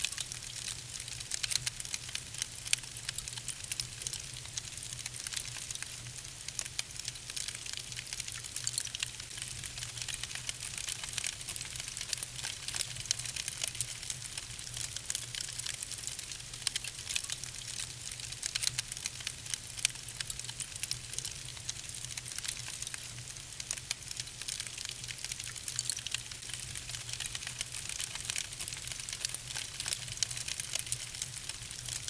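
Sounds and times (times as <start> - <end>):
logs crackling and popping in fire: 0.1 - 32.0.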